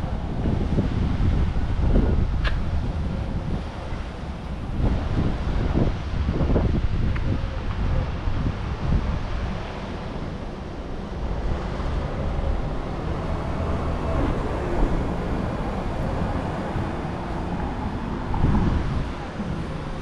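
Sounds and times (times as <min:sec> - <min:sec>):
traffic passing: 0:00.0 - 0:20.0
wind buffeting microphone: 0:00.0 - 0:20.0.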